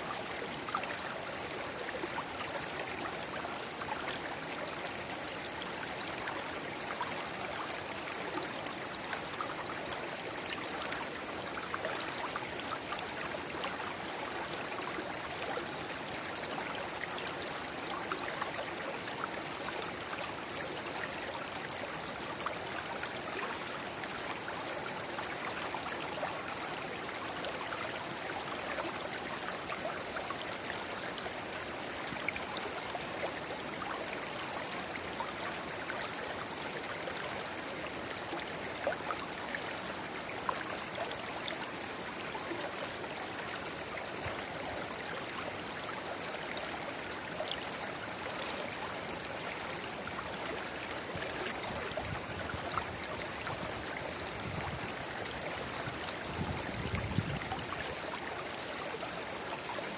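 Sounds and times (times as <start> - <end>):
river babbling: 0.0 - 59.9.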